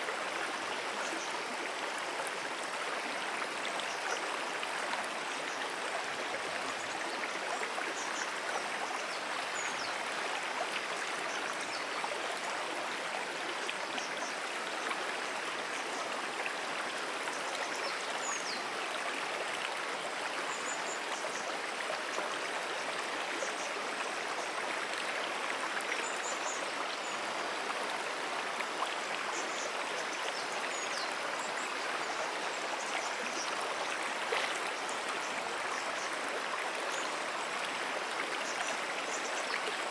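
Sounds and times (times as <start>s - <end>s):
brook flowing: 0.0s - 39.9s.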